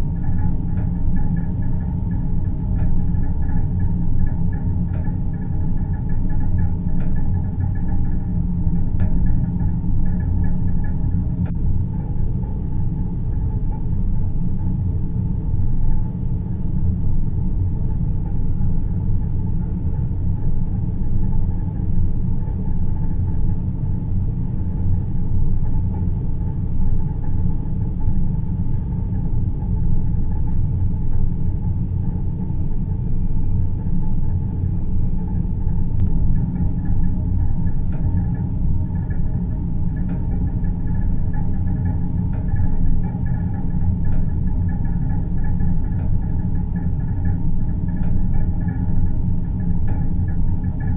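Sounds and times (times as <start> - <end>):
deep rumbling noise: 0.0 - 50.9.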